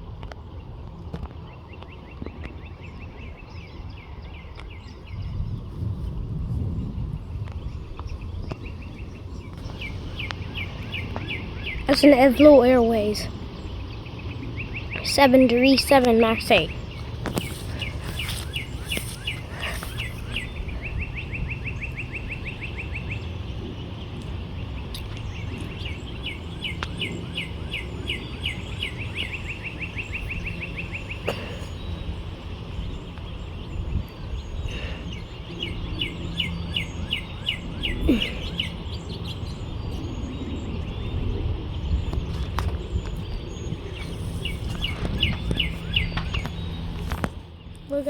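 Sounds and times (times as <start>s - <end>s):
low outdoor rumble: 0.0s - 48.0s
small birds chirping: 0.4s - 48.0s.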